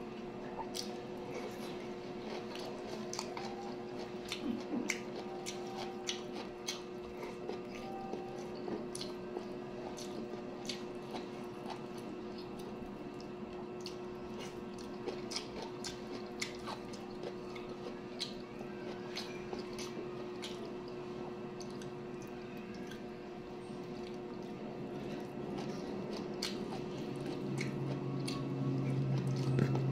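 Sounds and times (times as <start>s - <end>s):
low steady hum: 0.0s - 29.9s
chewing: 0.4s - 23.1s, 23.7s - 29.9s.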